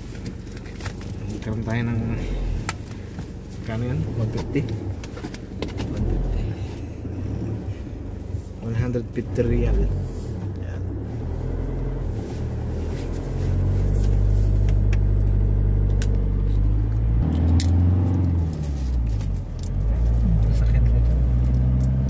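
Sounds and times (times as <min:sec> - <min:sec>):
car engine running: 0:00.0 - 0:22.0
road noise inside car: 0:00.0 - 0:22.0.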